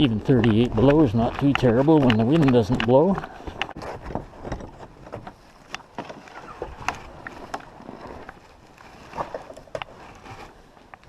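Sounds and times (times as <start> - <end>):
sharp clicks and crunches: 0.0 - 11.0.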